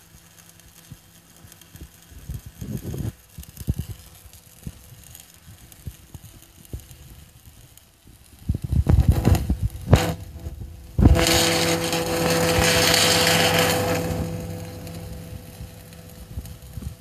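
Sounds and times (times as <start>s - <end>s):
welding arc hissing: 0.0s - 17.0s
welding power source hum: 0.0s - 17.0s.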